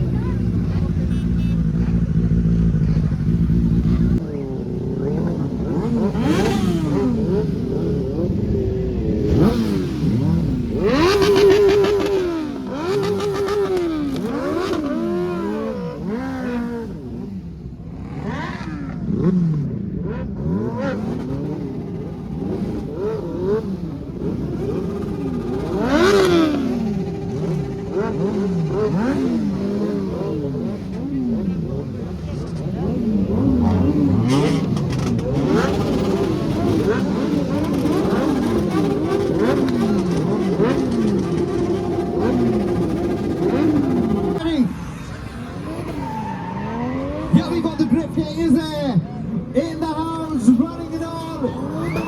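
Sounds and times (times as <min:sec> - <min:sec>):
motorcycle and car engines revving: 0:00.0 - 0:52.0.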